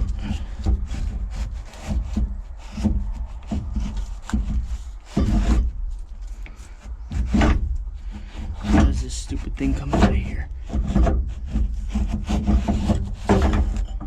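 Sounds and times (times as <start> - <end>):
hands and tools scraping and knocking: 0.0 - 14.0.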